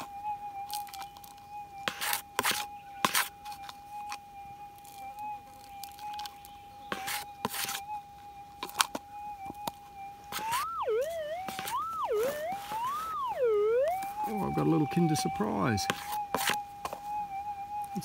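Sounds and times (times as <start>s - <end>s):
detector tone swooping in pitch: 0.0s - 18.0s
metal detector hum: 0.0s - 18.0s.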